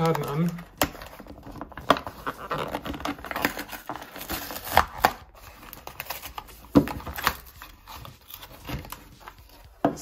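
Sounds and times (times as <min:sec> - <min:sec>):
plastic crinkling and snapping: 0:00.0 - 0:10.0.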